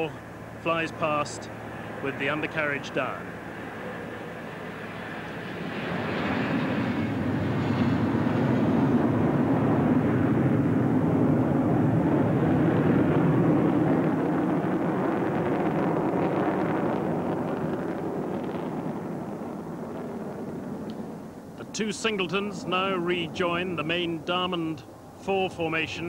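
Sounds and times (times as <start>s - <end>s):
jet rumble flying past: 0.0s - 26.0s.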